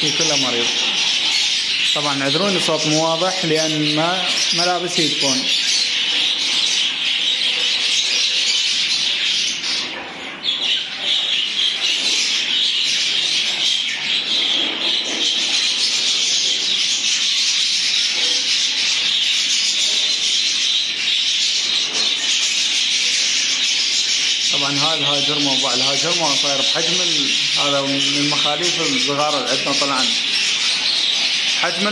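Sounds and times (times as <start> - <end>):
budgerigars chattering: 0.0 - 31.9.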